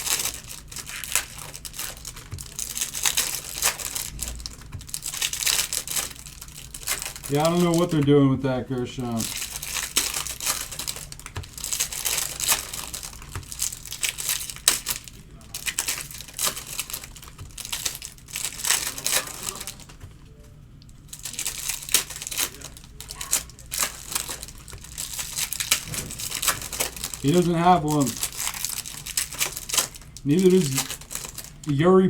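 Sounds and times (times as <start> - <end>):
wrappers crinkling and tearing: 0.0 - 32.0.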